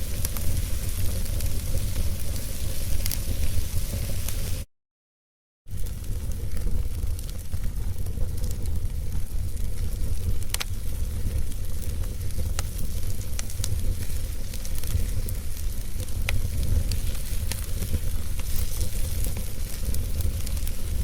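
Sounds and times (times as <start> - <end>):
wood fire crackling: 0.0 - 4.7, 5.7 - 21.0.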